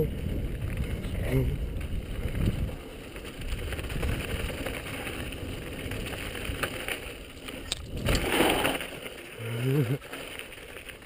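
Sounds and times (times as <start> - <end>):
bike rattling over stones: 0.0 - 11.0
tyres crunching on gravel: 0.0 - 11.0.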